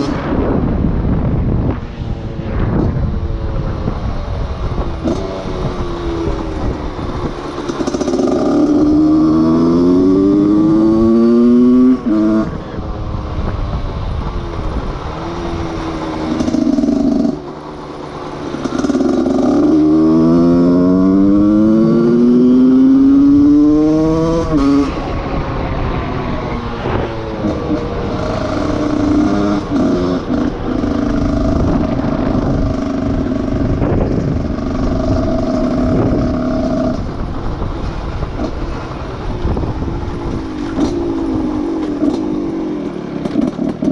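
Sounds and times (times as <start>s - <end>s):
two-stroke motorcycle engine accelerating: 0.0s - 43.9s.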